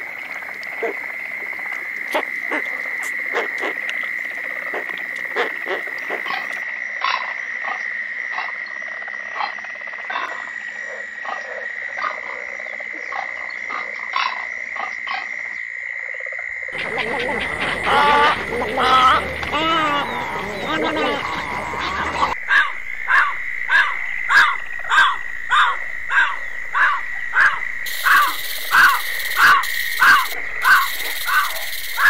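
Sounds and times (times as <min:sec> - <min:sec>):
frogs croaking: 0:00.0 - 0:32.0
frogs trilling: 0:00.0 - 0:32.0.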